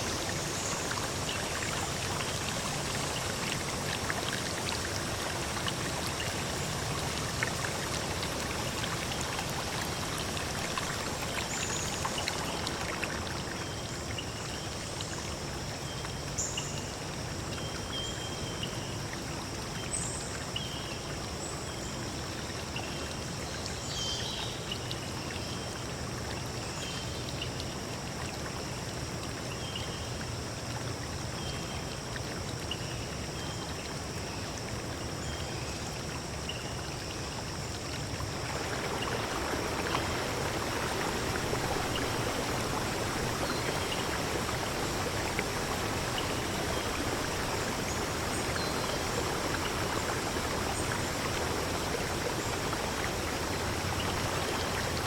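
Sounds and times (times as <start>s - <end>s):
stream of running water: 0.0s - 55.0s.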